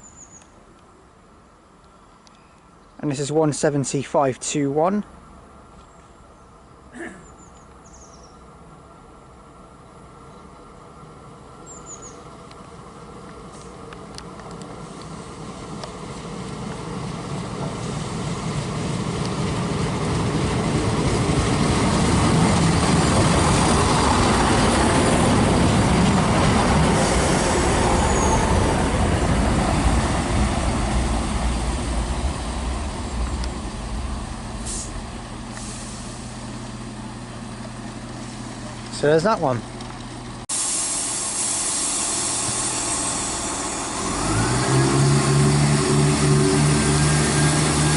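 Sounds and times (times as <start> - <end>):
passing train rumble: 0.0 - 47.9.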